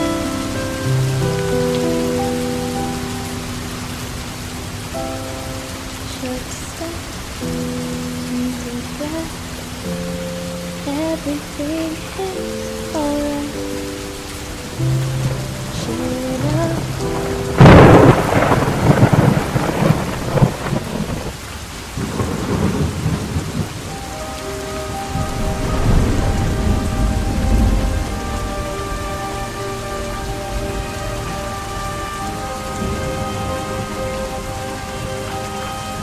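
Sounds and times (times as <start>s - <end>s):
sustained musical notes: 0.0s - 21.5s, 22.1s - 36.0s
steady rain: 0.0s - 36.0s
thunder rumbling: 0.0s - 36.0s.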